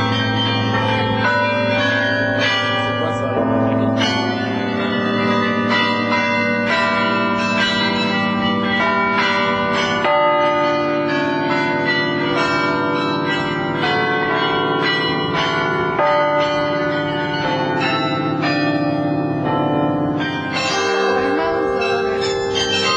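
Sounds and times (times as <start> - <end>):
carillon bells playing a tune: 0.0 - 22.9.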